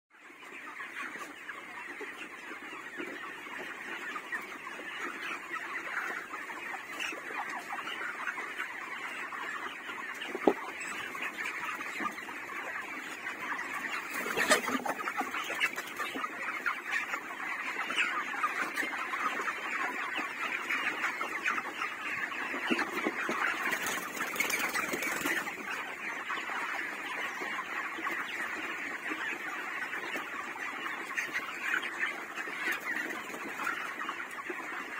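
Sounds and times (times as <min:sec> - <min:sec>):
chickens clucking and peeping: 0:00.2 - 0:34.9.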